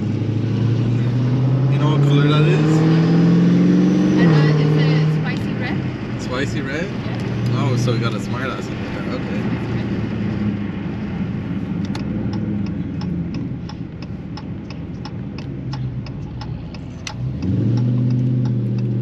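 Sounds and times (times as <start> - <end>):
car engine running: 0.0 - 19.0
turn signal ticking: 0.0 - 19.0.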